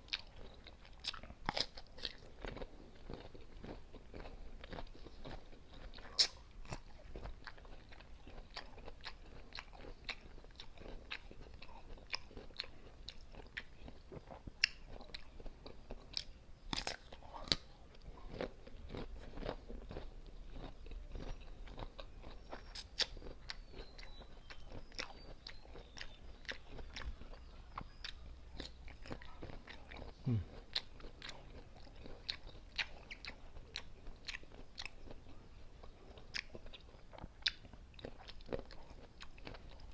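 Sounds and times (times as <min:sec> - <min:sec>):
crunching and chewing mango: 0:00.0 - 0:39.9.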